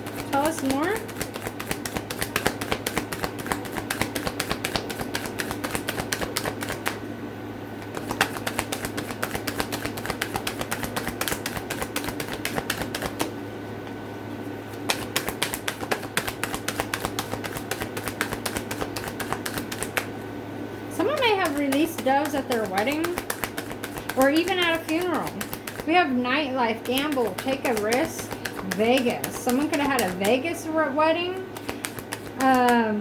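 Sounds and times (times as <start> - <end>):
cards being shuffled: 0.0 - 7.0, 7.8 - 13.3, 14.7 - 20.1, 21.0 - 26.0, 26.7 - 30.6, 31.4 - 32.9
low electrical hum: 0.0 - 33.0.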